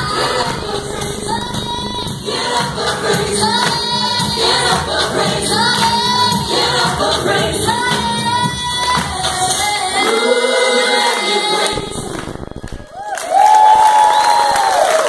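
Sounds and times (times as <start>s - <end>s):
vocal group singing gospel: 0.0s - 13.1s.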